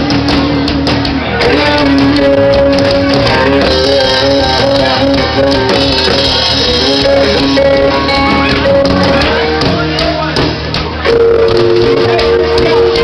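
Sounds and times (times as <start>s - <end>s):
drum kit: 0.0s - 13.0s
guitar melody: 0.0s - 13.0s.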